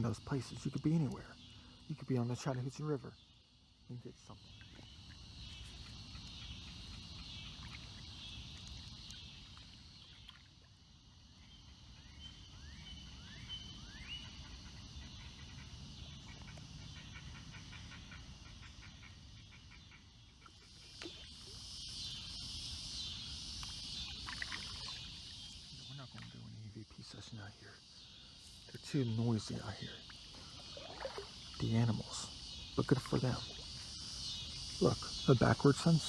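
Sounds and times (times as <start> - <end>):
insect drone: 0.0 - 36.0.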